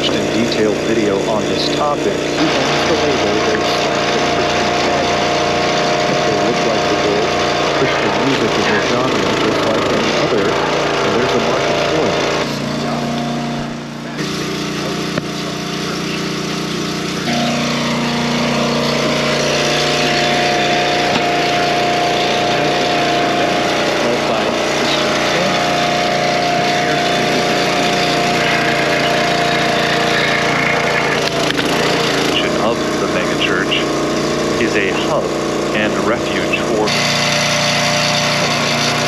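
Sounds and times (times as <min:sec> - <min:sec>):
log splitter engine running: 0:00.0 - 0:39.0.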